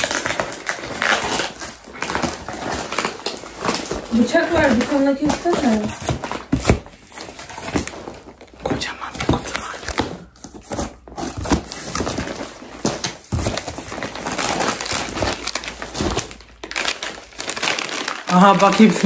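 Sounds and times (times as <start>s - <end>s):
packing tape ripping: 0.0s - 8.6s, 9.6s - 19.0s
plastic bag crinkling: 0.0s - 19.0s.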